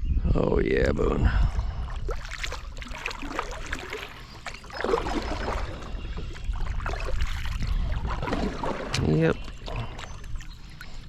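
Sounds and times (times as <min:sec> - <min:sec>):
paddle splashing water: 0:01.9 - 0:11.0.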